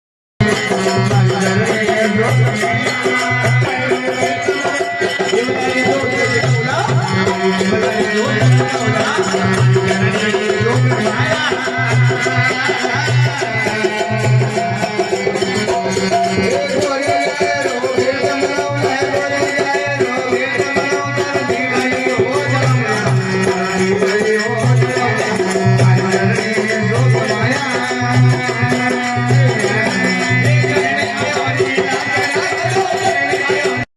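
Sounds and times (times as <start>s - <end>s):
folk devotional melody: 0.4s - 33.9s
repeating drum beat: 0.4s - 33.9s.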